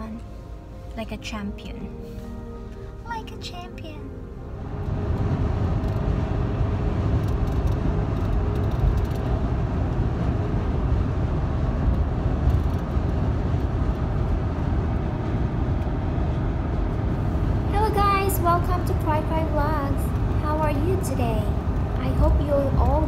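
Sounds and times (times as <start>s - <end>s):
car interior road and engine rumble: 0.0s - 23.0s.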